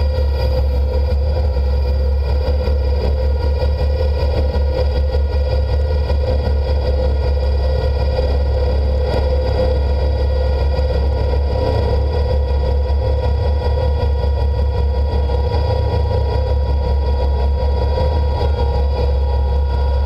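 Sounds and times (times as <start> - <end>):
mid-pitched machine whine: 0.0 - 20.0
tractor engine droning: 0.0 - 20.0.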